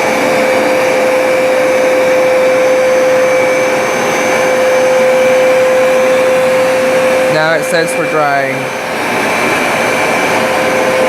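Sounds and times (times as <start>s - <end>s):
carpet cleaner motor whine: 0.0s - 11.0s
suction rushing: 2.0s - 11.0s.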